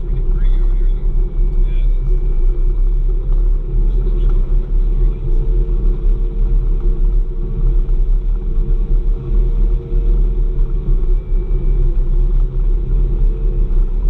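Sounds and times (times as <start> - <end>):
groomer engine rumbling: 0.0 - 14.0.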